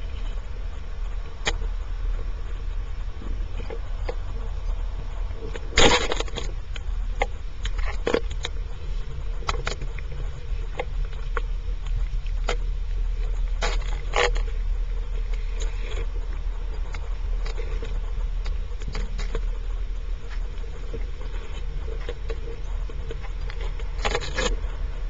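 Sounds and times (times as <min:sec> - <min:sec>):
underwater low rumble: 0:00.0 - 0:25.0.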